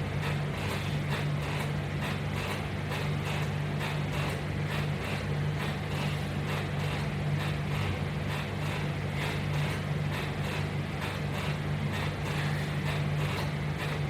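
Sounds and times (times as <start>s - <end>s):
pulsing mechanical hum: 0.0s - 14.0s.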